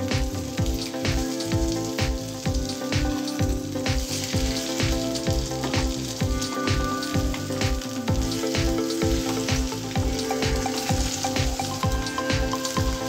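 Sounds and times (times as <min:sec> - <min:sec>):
background music with steady beat: 0:00.0 - 0:13.0
eggs sizzling in oil: 0:00.0 - 0:13.0.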